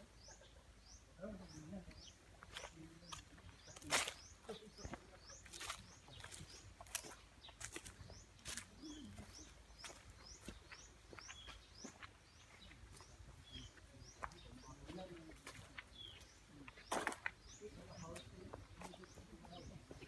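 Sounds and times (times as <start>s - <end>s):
small bird chirping: 0.0s - 19.9s.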